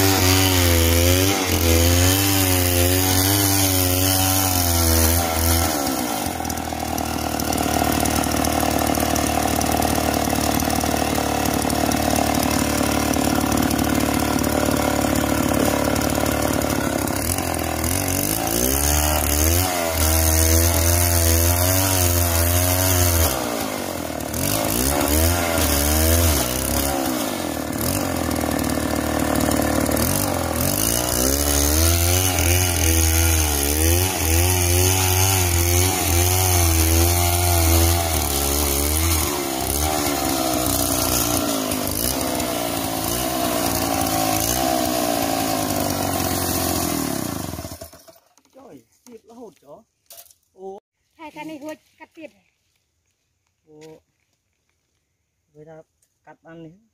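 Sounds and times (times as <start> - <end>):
chainsaw cutting log: 0.0 - 48.7.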